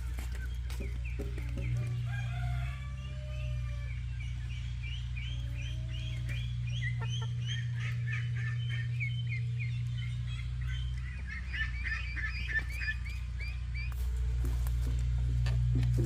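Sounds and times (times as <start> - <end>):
chickens clucking: 0.0 - 16.0
steady low hum: 0.0 - 16.0.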